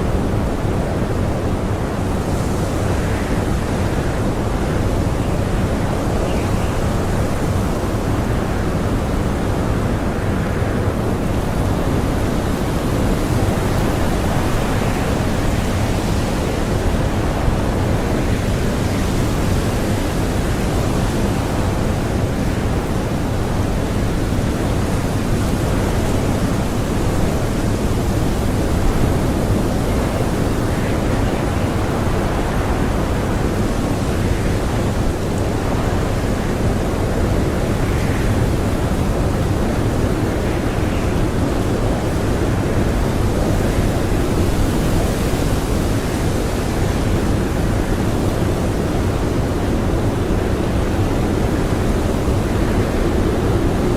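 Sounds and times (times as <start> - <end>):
blizzard wind rushing: 0.0 - 53.9.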